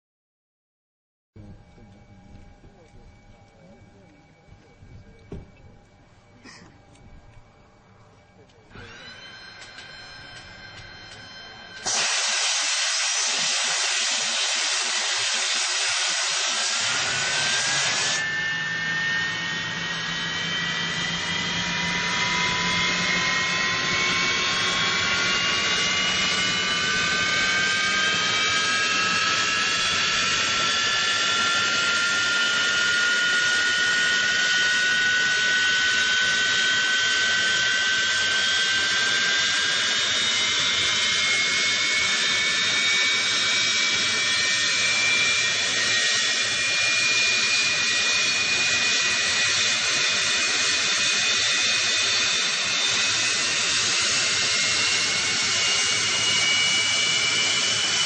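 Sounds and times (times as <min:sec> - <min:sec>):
rising engine whine: 0:01.4 - 0:58.0
jet engine roar: 0:08.7 - 0:58.0.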